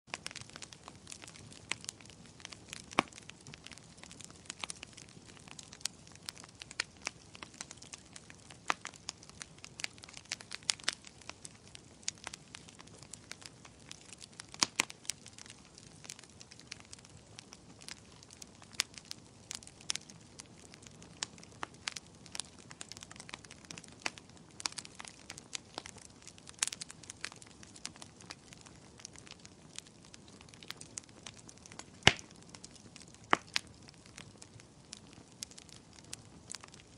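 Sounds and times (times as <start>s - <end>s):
campfire crackling and popping: 0.1s - 36.9s.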